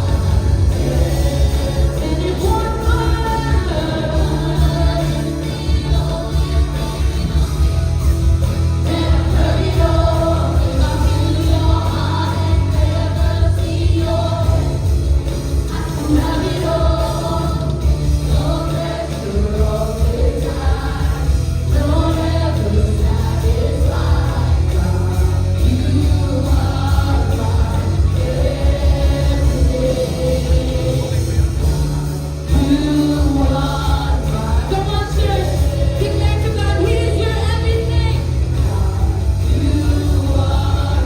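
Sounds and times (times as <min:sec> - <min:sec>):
band playing worship music: 0:00.0 - 0:41.0
voices singing together: 0:00.0 - 0:41.0.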